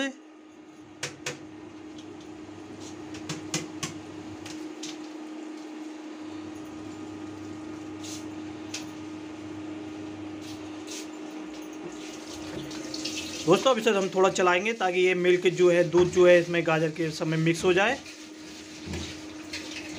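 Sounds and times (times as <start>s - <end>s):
cooktop fan humming: 0.0s - 19.9s.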